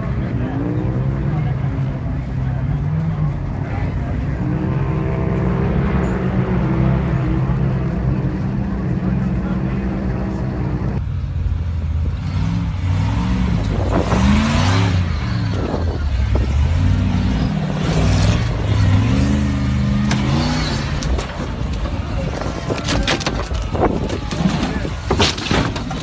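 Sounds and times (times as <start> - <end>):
engine revving unevenly: 0.0 - 26.0.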